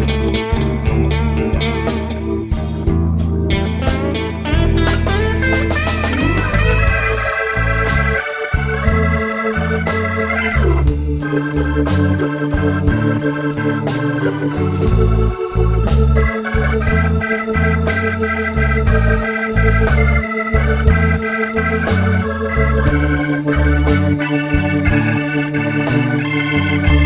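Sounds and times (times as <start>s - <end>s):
bass line: 0.0s - 27.0s
organ playing held chords: 0.0s - 27.0s
steady beat: 0.0s - 27.0s.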